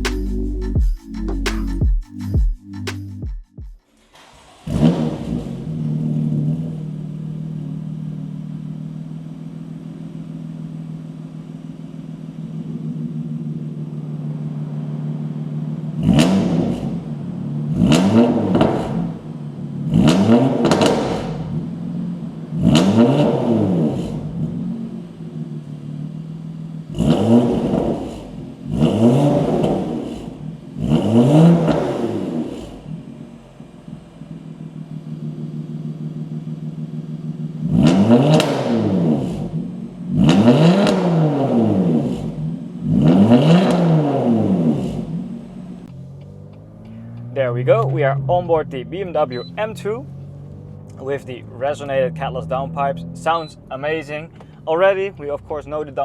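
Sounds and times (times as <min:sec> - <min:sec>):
car engine idling: 0:00.0 - 0:02.5, 0:03.8 - 0:56.0
car engine revving: 0:00.0 - 0:03.0, 0:03.8 - 0:56.0.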